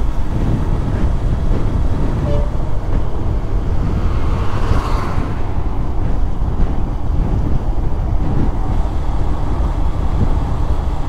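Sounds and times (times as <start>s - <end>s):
motorcycle road noise: 0.0s - 11.0s
wind buffeting: 0.0s - 11.0s.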